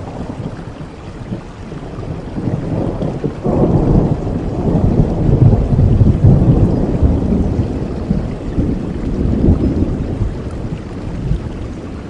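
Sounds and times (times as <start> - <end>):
heavy rain: 0.0 - 12.0
thunder rumbling: 0.0 - 12.0.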